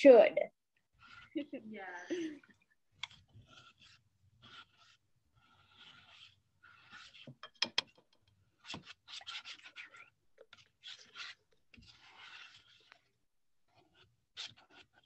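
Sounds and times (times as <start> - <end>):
plastic spoon stirring thick mixture: 0.7 - 15.0.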